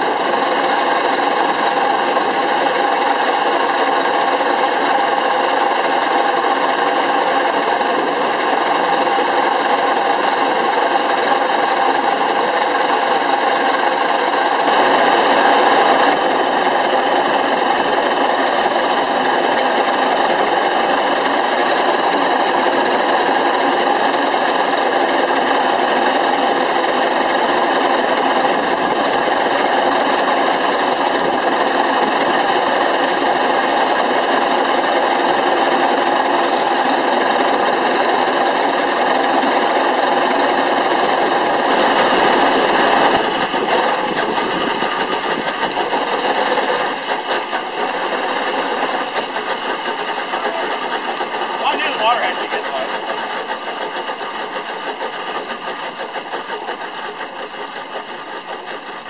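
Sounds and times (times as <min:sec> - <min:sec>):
steam engine clattering: 0:00.0 - 0:59.0.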